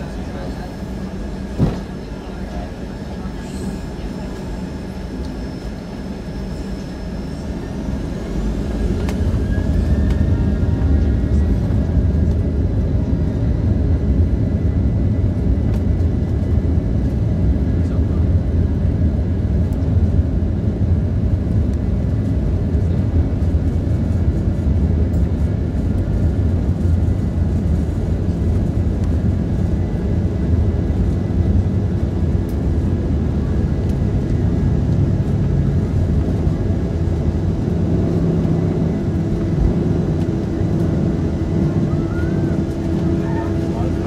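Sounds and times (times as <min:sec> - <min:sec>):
jet engines roaring: 0:00.0 - 0:44.0
runway rumble: 0:00.0 - 0:44.0.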